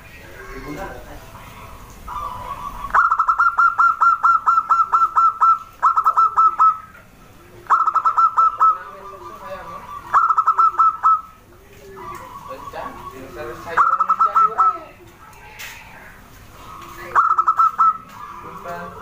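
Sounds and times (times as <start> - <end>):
dove calling: 0.0 - 19.0.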